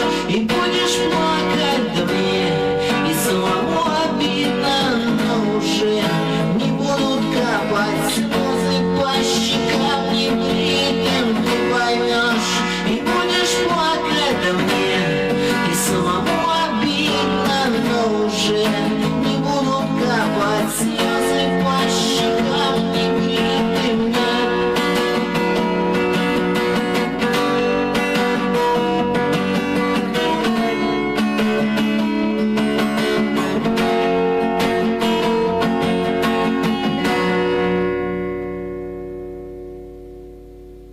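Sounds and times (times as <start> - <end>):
strummed acoustic guitar music: 0.0 - 40.9.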